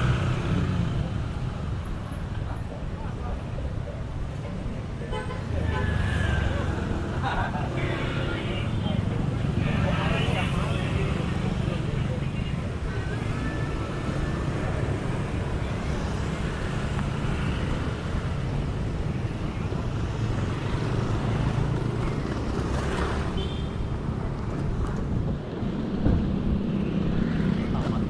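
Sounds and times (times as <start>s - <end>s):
vehicle engines passing: 0.0s - 28.0s.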